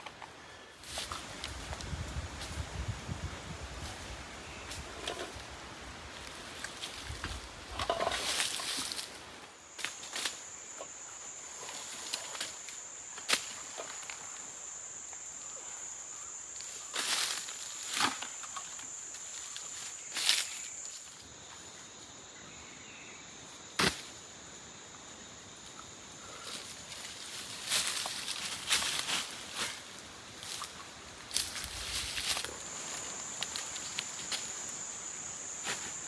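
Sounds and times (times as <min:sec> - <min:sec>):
fainter lower insect call: 0:00.0 - 0:36.0
rainforest background hiss: 0:00.0 - 0:36.0
high-pitched insect call: 0:00.7 - 0:36.0.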